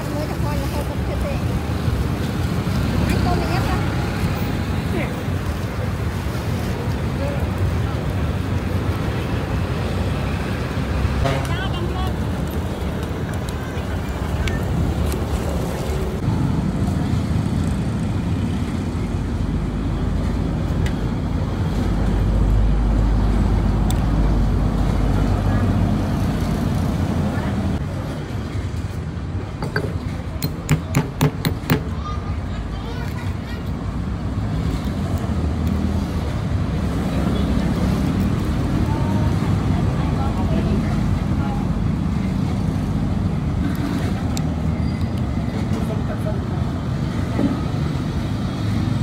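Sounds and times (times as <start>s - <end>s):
street traffic rumble: 0.0s - 49.0s.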